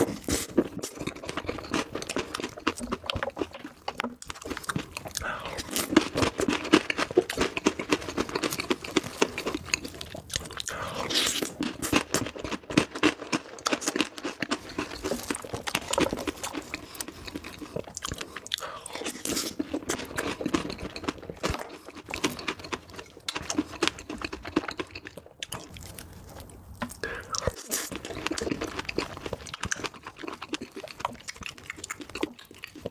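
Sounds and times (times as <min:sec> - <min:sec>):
person chewing and crunching: 0:00.0 - 0:32.9.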